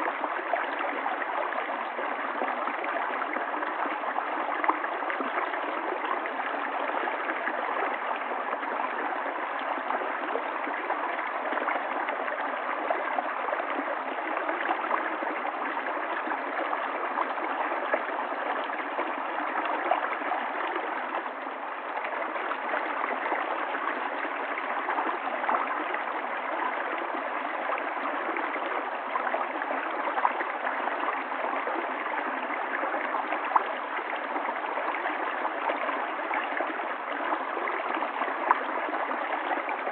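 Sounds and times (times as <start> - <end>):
stream water rushing and gurgling: 0.0 - 39.9.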